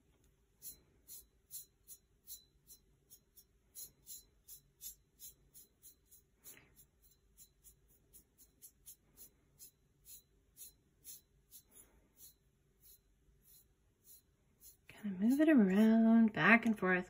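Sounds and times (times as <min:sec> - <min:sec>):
bristle brush strokes: 0:00.0 - 0:16.8.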